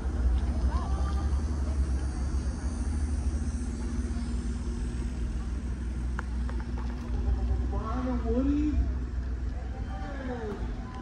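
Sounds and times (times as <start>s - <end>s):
car engine rumbling: 0.0s - 11.0s
faint steady hum: 0.0s - 11.0s.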